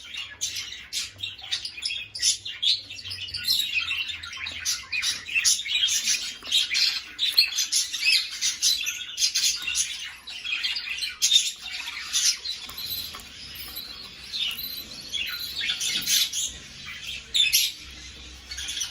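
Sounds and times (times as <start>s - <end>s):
budgerigars chattering: 0.0s - 18.9s.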